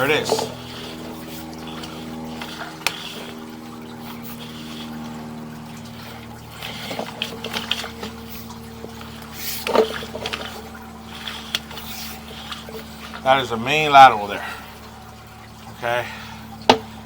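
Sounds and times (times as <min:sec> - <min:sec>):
faint trickling water: 0:00.0 - 0:17.0
steady electrical hum: 0:00.0 - 0:17.0.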